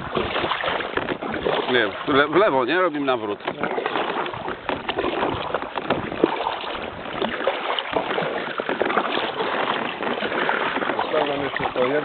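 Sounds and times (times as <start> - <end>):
paddle splashing and dripping: 0.0 - 12.0.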